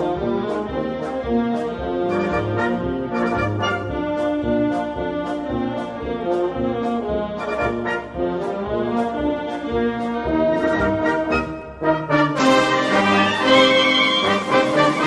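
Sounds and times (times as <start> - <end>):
wind band playing a march: 0.0 - 15.0.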